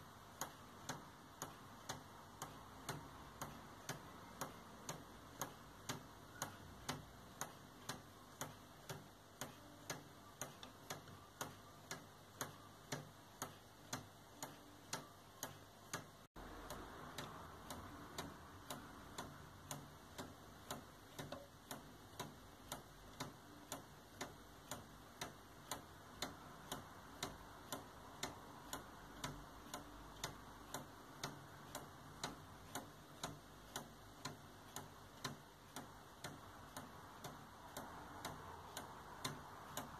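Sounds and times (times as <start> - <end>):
pendulum clock ticking: 0.0 - 39.9.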